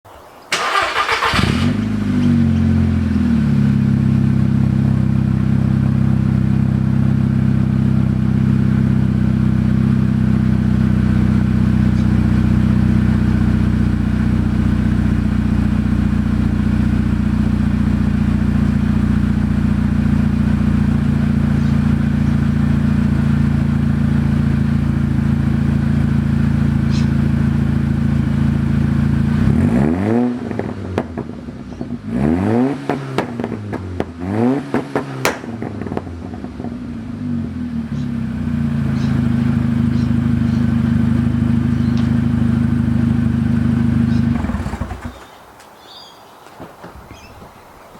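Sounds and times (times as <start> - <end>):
car engine starting and idling: 0.5 - 45.3.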